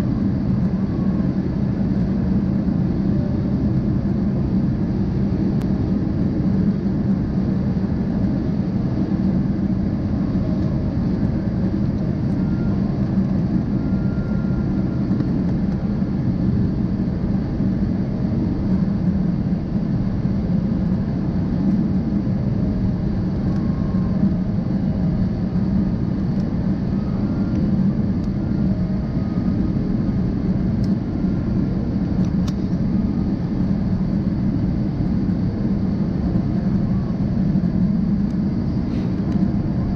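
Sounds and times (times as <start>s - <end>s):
jet cabin engine rumble: 0.0s - 39.9s.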